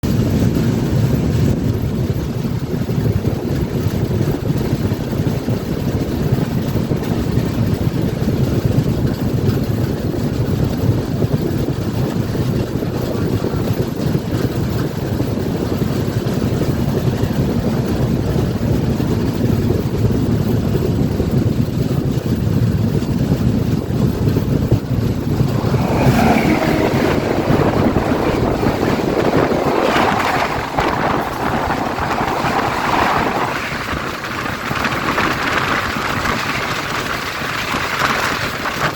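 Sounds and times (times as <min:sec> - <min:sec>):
train rumbling on rails: 0:00.1 - 0:38.9.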